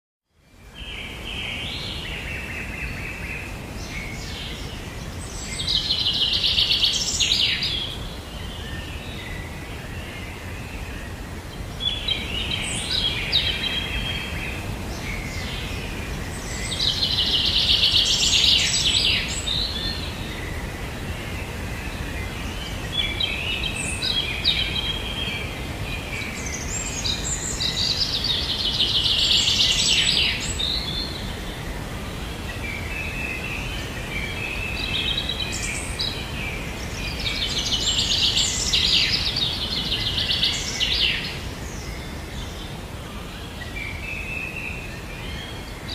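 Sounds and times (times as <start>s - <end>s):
songbirds chirping: 0.3s - 45.9s.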